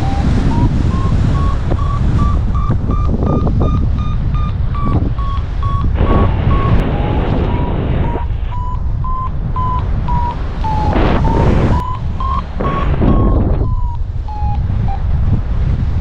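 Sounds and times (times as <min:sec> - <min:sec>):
variometer beeping: 0:00.0 - 0:15.4
wind rushing on microphone: 0:00.0 - 0:16.0.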